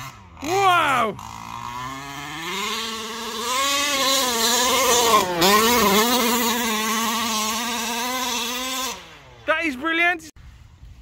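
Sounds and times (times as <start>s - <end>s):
rc truck engine revving: 0.0s - 9.9s.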